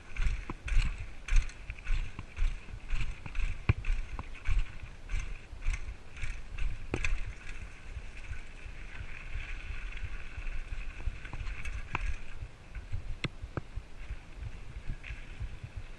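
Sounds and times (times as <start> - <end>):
bike tyre rumble on dirt: 0.0 - 15.9
wind buffeting microphone: 0.0 - 15.9
bike clicks and rattles: 0.1 - 13.7.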